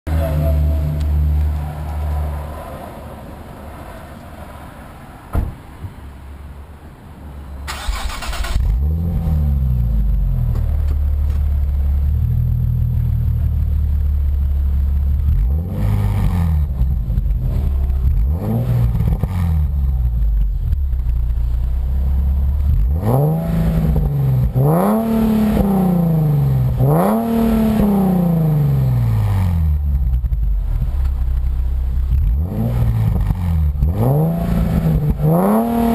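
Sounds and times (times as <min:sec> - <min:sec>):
car engine idling and revving: 0:00.1 - 0:04.6, 0:06.2 - 0:35.9.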